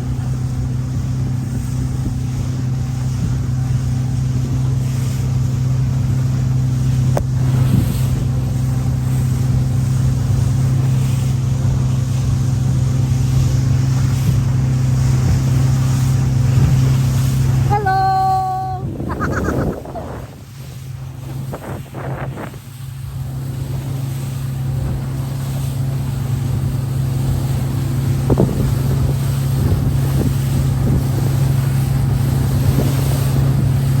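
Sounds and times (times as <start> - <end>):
motorboat engine humming: 0.0 - 34.0
rushing water: 0.0 - 34.0
wind: 0.0 - 34.0.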